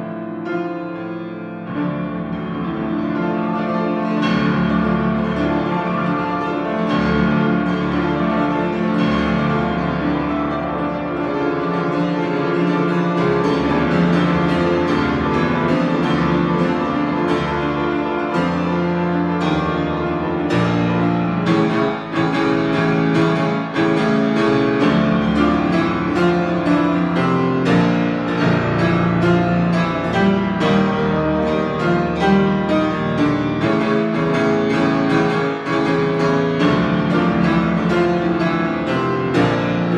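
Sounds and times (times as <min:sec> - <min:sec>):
grand piano chords: 0:00.0 - 0:39.9
low bass piano notes: 0:00.0 - 0:39.9.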